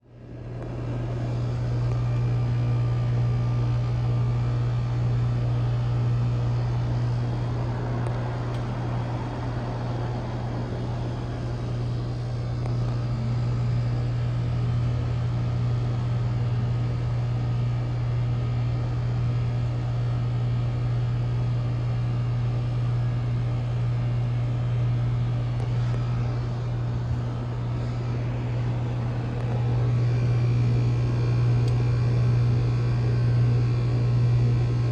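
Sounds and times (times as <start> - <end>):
heat pump unit humming: 0.0 - 34.9.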